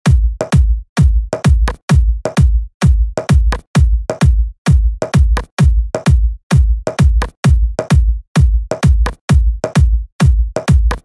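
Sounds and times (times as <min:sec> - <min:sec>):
electronic music with booming bass: 0:00.0 - 0:11.0.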